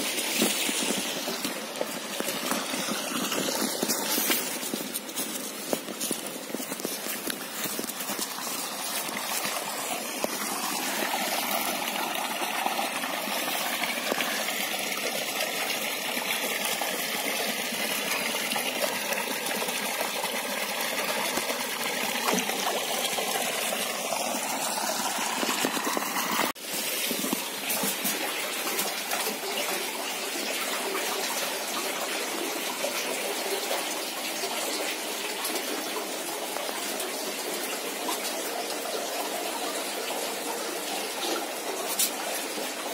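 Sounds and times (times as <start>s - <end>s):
running water rushing: 0.0s - 42.9s.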